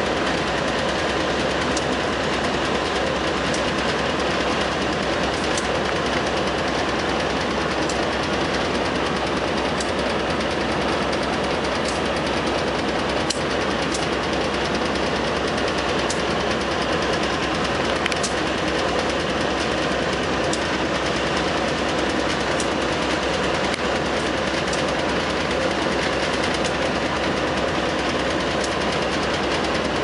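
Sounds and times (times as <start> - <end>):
freight train wheels rattling: 0.0 - 30.0.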